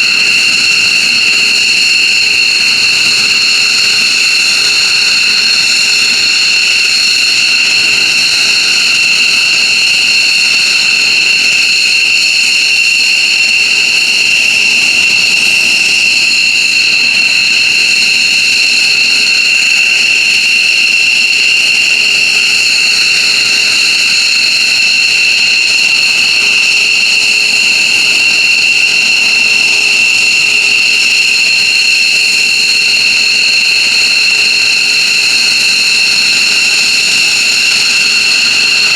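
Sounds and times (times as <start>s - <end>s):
jet engines high-pitched whine: 0.0s - 38.9s.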